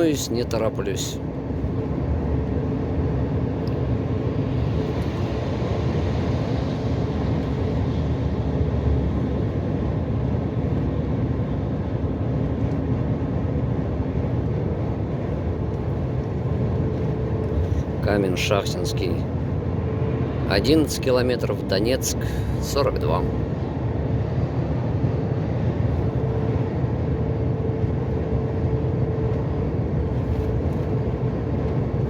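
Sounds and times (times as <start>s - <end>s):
road and wind noise: 0.0s - 32.0s
truck engine drone: 0.0s - 32.0s.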